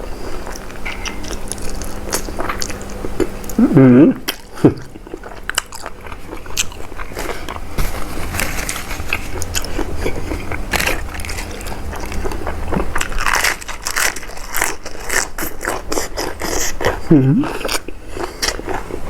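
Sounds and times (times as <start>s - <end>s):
person chewing wetly: 0.0s - 19.0s.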